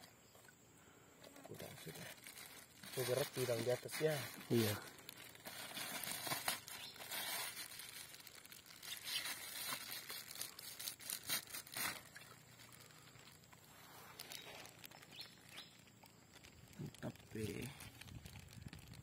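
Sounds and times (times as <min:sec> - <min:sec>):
plastic bag crinkling: 0:01.5 - 0:19.0.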